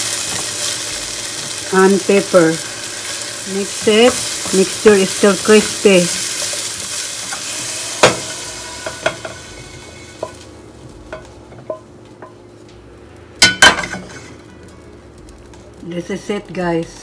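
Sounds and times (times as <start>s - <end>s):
peppers sizzling in oil: 0.0s - 17.0s.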